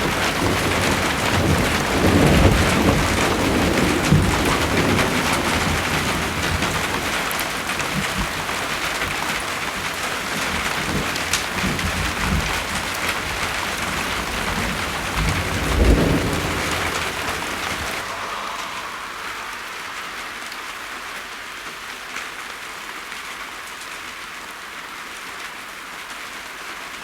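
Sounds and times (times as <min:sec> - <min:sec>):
thunder rumbling: 0:00.0 - 0:22.1
steady rain: 0:00.0 - 0:27.0.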